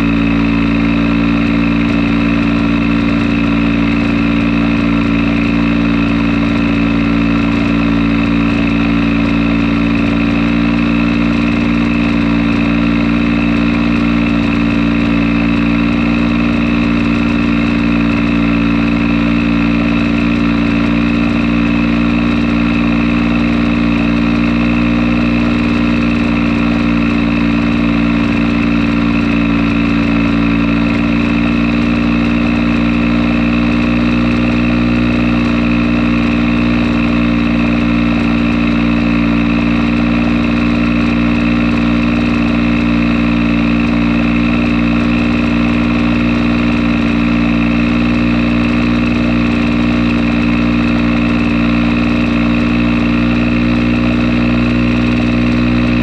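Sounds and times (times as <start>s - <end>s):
two-stroke generator engine running: 0.0s - 56.0s.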